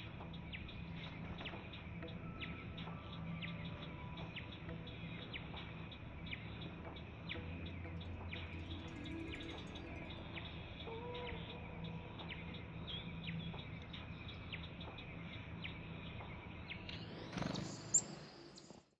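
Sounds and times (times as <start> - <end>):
birds chirping: 0.0 - 18.8.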